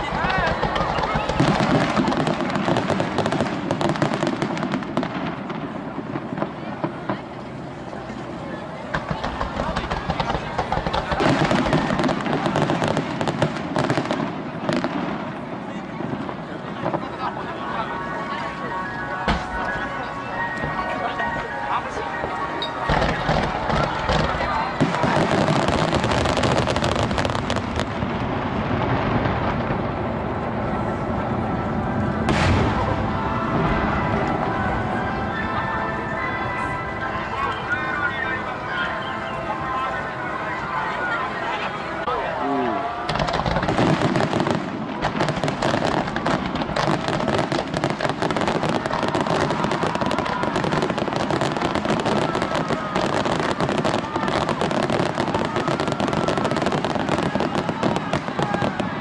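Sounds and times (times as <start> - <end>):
fireworks crackling and bursting: 0.0 - 59.0.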